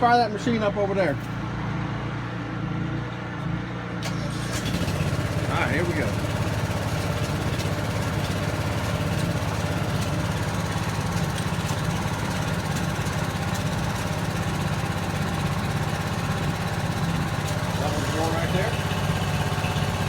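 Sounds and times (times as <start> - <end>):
small engine running steadily: 0.0 - 20.0.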